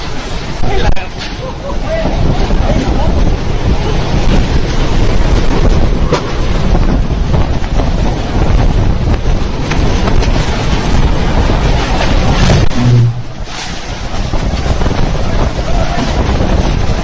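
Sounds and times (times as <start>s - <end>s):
driving rain: 0.0s - 17.0s
storm wind: 0.0s - 17.0s
wind buffeting microphone: 0.0s - 17.0s.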